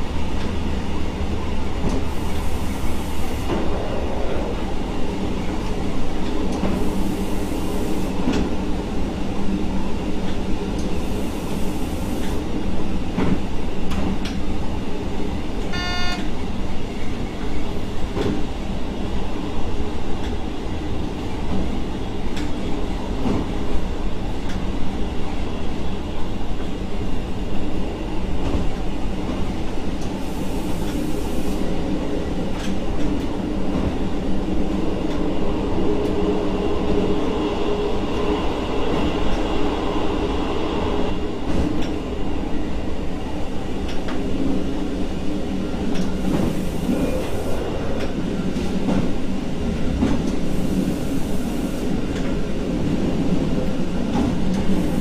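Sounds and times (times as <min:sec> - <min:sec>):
train engine drone: 0:00.0 - 0:55.0.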